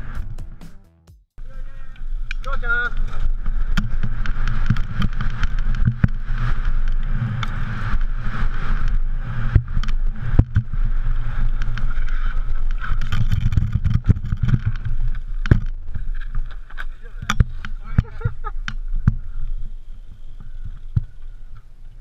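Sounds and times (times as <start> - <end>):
bike rumbling on track: 1.4 - 22.0
bike knocking and rattling: 1.7 - 22.0.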